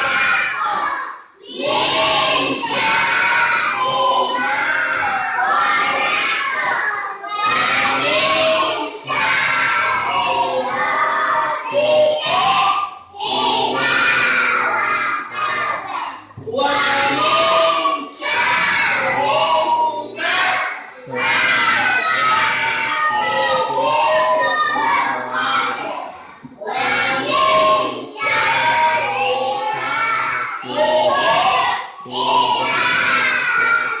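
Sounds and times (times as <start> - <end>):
children chanting together: 0.0 - 34.0.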